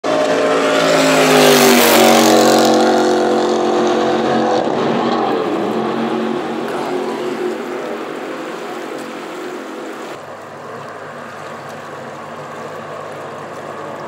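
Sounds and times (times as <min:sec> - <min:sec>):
jet boat engine speeding past: 0:00.0 - 0:14.0.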